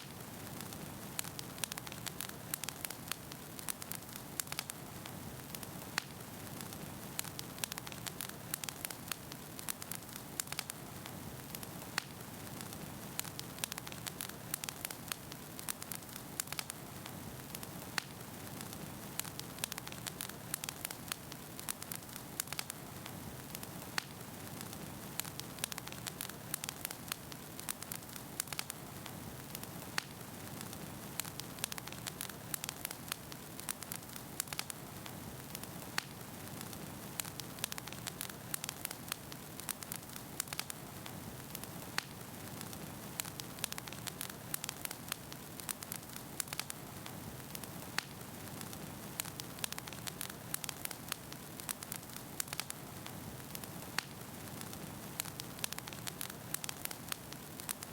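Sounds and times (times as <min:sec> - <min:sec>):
firewood crackling and popping: 0:00.0 - 0:57.9
fire rumbling: 0:00.1 - 0:57.9.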